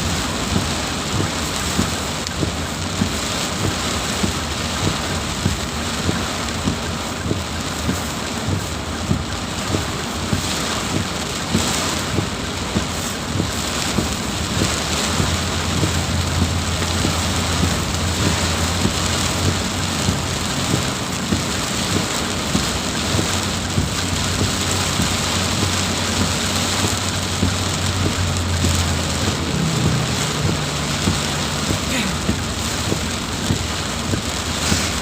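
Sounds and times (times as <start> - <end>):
heavy rain pouring: 0.0 - 35.0
raindrops hitting surface: 0.0 - 35.0.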